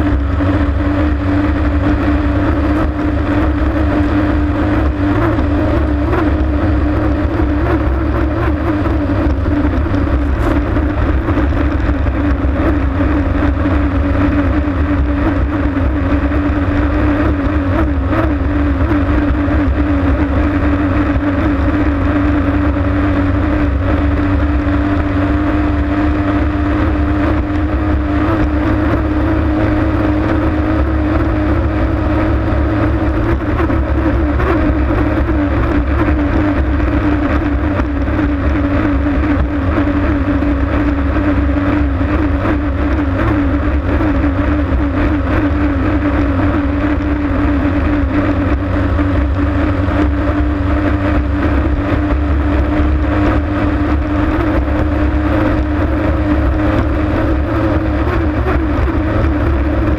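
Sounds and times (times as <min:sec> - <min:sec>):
racing boat engine at full speed: 0:00.0 - 0:59.9.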